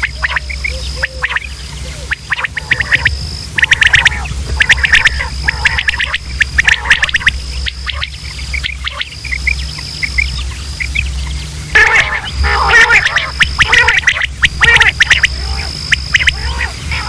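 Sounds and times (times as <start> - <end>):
high-pitched whine: 0.0 - 17.0
low hum: 0.0 - 17.0
quail calling: 0.0 - 17.0.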